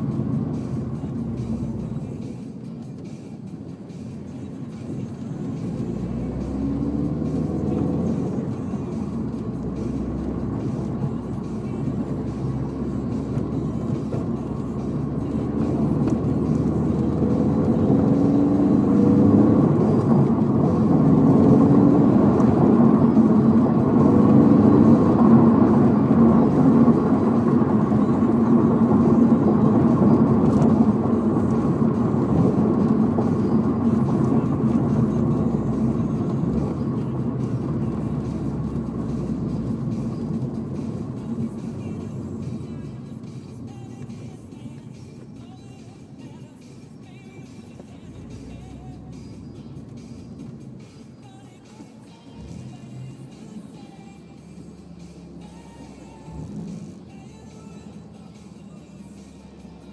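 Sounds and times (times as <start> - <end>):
car engine rumbling: 0.0 - 59.9.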